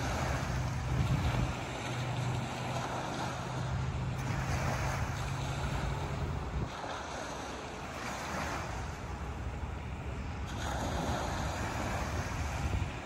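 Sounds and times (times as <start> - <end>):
small waves washing onto beach: 0.0 - 13.0
wind rumble on microphone: 0.0 - 13.0.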